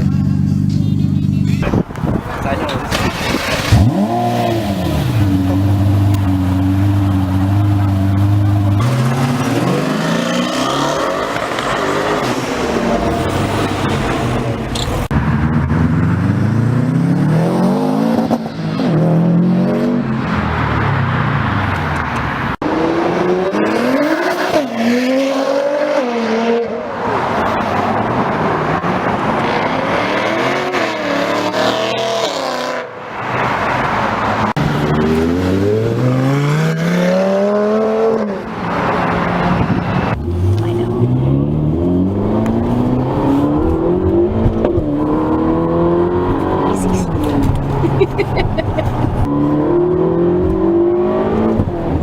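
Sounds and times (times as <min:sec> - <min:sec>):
car engines accelerating hard: 0:00.0 - 0:52.0.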